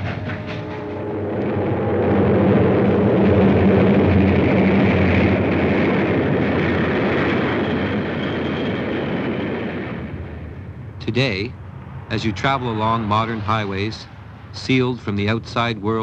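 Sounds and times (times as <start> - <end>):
low engine drone: 0.0 - 16.0
train rushing rail noise: 0.0 - 16.0.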